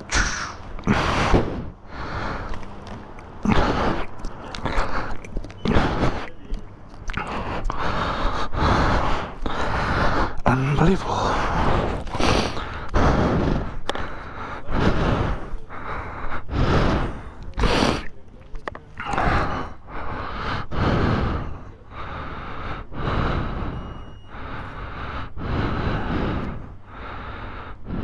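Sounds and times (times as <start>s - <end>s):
person breathing heavily: 0.0s - 18.2s, 19.0s - 28.0s.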